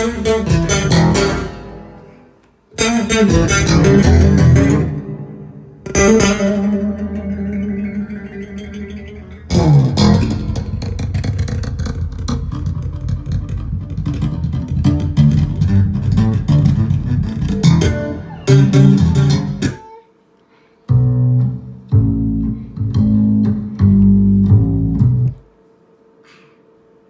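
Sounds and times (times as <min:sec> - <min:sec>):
music with bass guitar: 0:00.0 - 0:19.8, 0:20.9 - 0:25.5.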